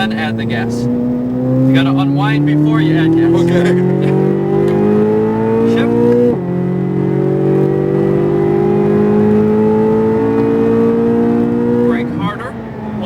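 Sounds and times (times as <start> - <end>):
car engine revving under full throttle: 0.0 - 13.0.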